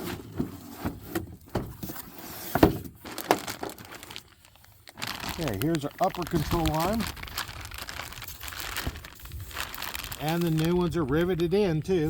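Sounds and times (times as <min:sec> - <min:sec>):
cardboard packaging rustling: 0:00.0 - 0:10.9.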